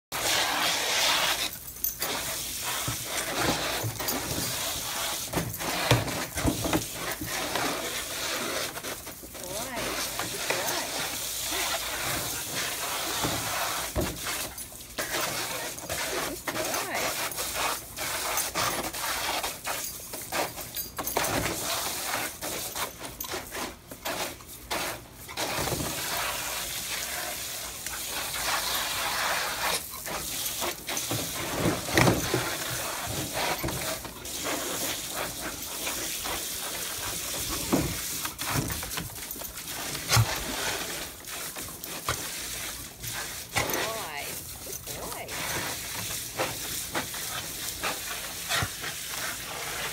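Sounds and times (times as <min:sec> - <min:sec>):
hose water pouring into pool: 0:00.1 - 0:20.7, 0:24.0 - 0:49.9
dog splashing water: 0:02.0 - 0:49.9.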